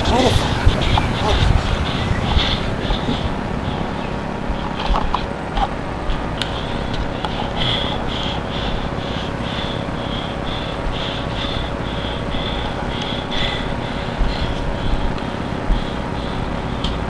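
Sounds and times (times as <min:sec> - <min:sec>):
high-pitched pulse: 0:00.0 - 0:17.0.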